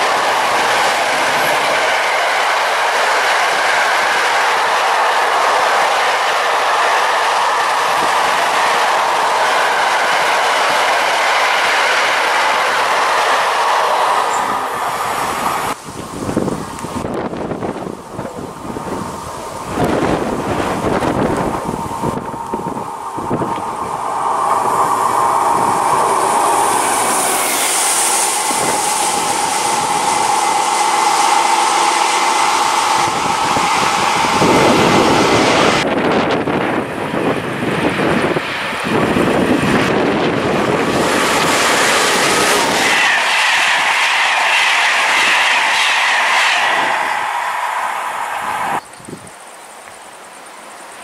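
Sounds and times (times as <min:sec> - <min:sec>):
electric locomotive passing: 0:00.0 - 0:51.0
train wheels on rails: 0:00.0 - 0:51.0.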